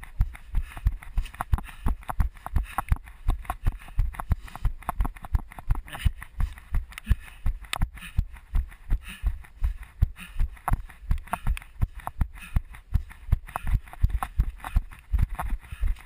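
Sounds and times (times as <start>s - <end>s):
footsteps on dirt track: 0.0s - 16.0s.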